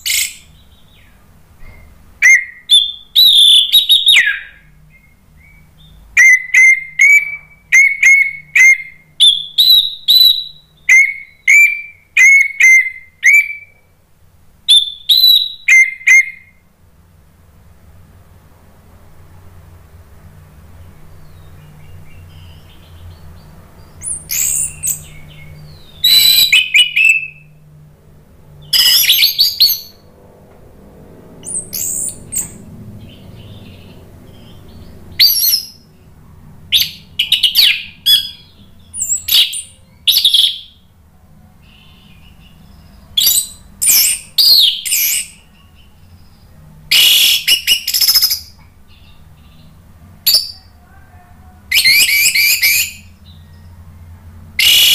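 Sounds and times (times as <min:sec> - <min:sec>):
faint low hum: 0:00.0 - 0:54.7.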